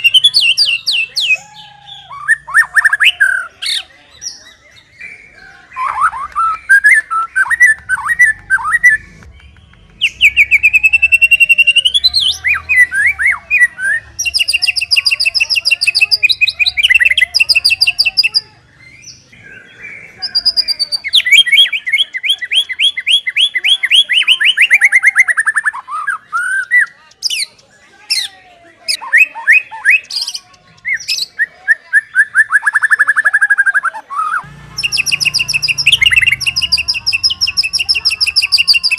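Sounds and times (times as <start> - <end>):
bird singing varied song: 0.0 - 38.9.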